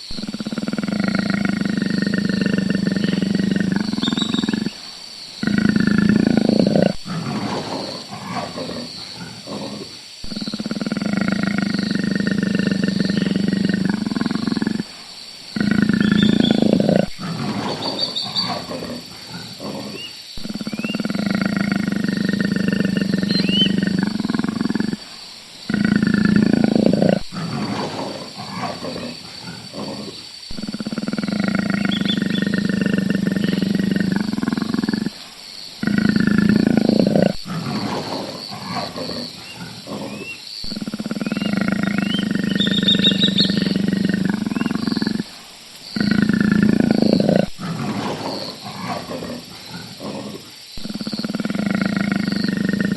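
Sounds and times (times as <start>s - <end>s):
big cat roaring and growling: 0.0s - 52.9s
birds chirping faintly: 0.0s - 52.9s.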